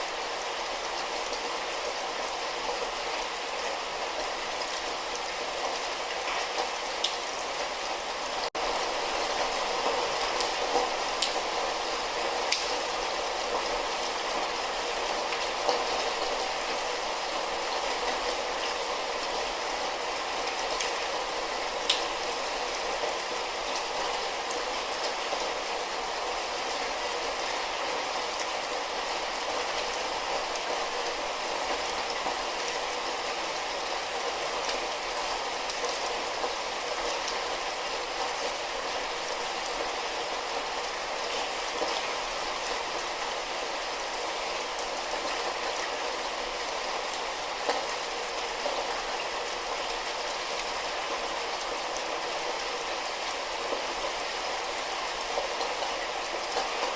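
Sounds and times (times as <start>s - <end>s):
light rain falling: 0.0s - 56.9s.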